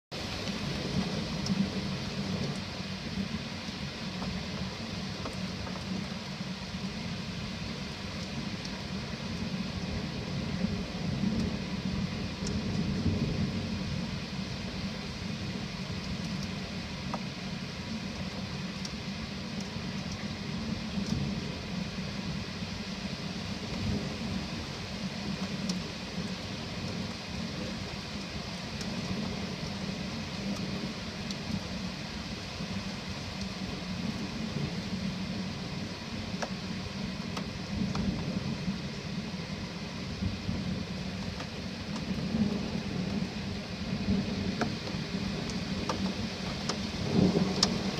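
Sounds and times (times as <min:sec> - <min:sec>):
low rumble of thunder: 0:00.1 - 0:47.9
steady rain: 0:00.1 - 0:47.9.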